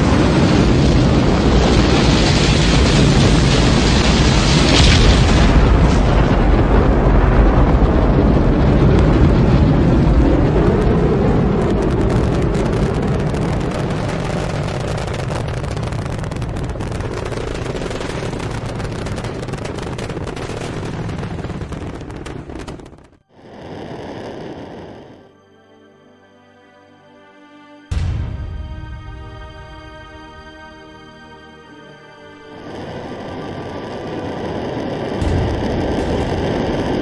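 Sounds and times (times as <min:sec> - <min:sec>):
rapid crackle: 0:00.0 - 0:25.3, 0:32.5 - 0:37.0
rocket engines rumbling: 0:00.0 - 0:25.4, 0:32.4 - 0:37.0.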